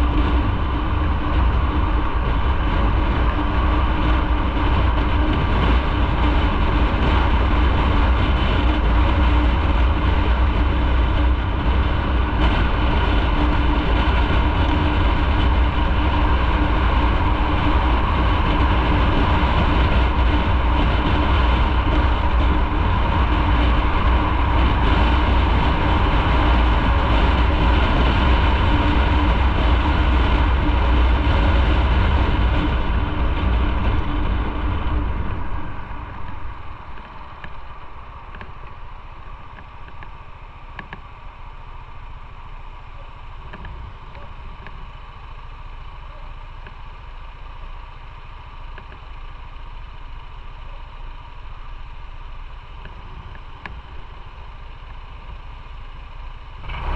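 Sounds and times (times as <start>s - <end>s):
low rumble: 0.0s - 56.9s
motorcycle engine drone: 0.0s - 56.9s.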